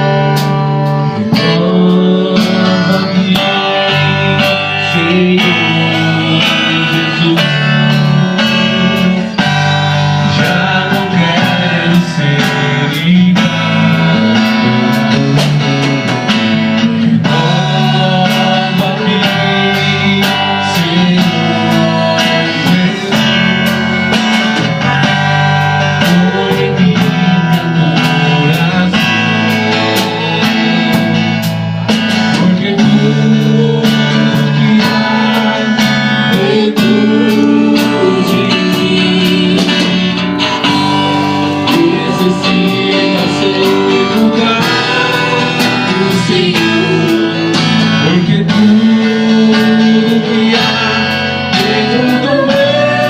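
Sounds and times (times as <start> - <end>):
band playing a worship song: 0.0 - 53.0.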